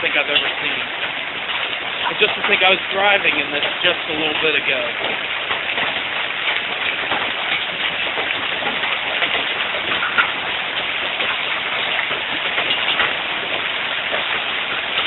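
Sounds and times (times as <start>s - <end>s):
hailstones clattering: 0.0s - 15.0s
sharp hail hit: 0.0s - 15.0s.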